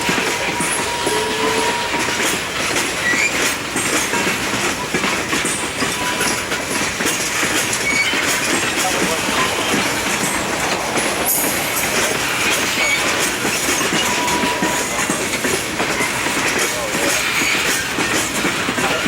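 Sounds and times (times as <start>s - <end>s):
train wheels clacking over rail joints: 0.0s - 19.0s.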